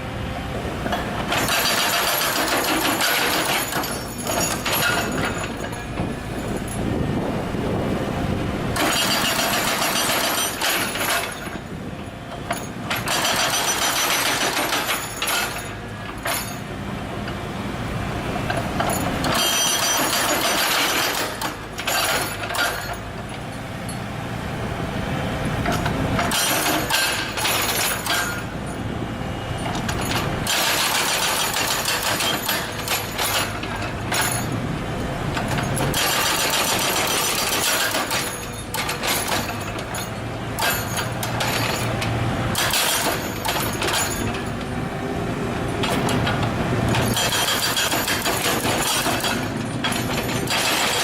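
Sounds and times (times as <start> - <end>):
diesel engine running: 0.0 - 51.0
hydraulic breaker hammering: 0.8 - 7.8, 8.7 - 16.7, 18.5 - 24.0, 25.6 - 28.8, 29.4 - 51.0.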